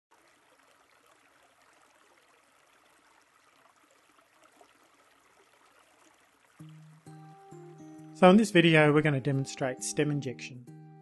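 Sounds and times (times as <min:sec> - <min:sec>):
running creek water: 0:00.1 - 0:10.0.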